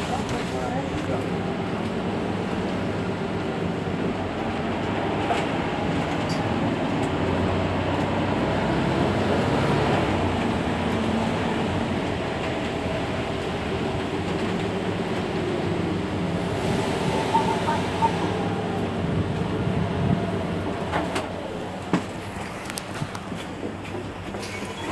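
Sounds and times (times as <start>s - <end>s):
bus diesel engine humming: 0.0s - 24.9s.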